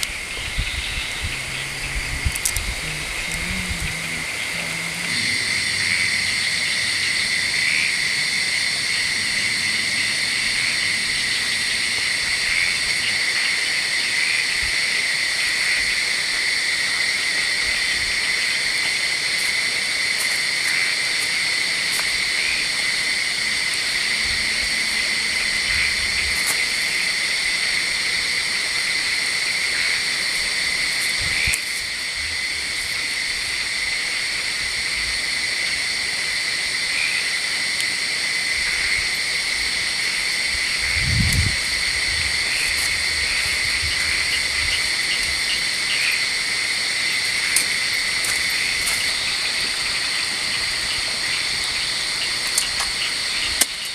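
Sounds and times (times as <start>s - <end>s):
forest insects chorus: 0.0s - 53.9s.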